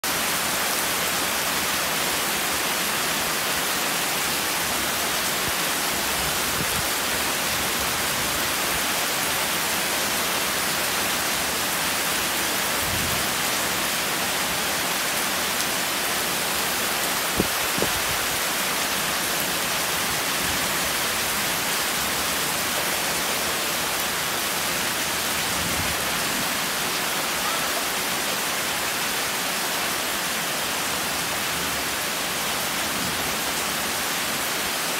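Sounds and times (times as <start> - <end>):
heavy rain falling: 0.0 - 34.9
water streaming off roof: 0.0 - 34.9.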